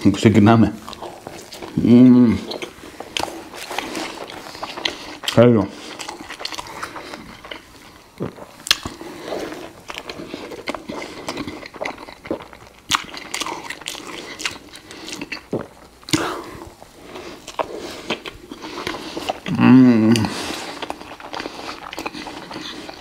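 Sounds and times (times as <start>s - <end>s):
crunchy chewing: 0.8s - 23.0s.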